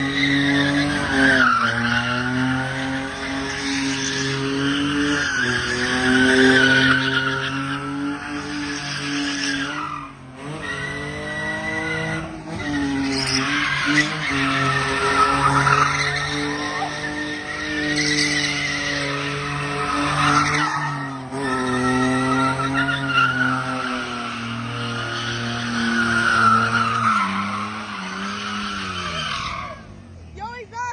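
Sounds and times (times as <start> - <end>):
car engine at high revs: 0.0 - 30.4
tyres squealing and skidding: 0.0 - 30.7.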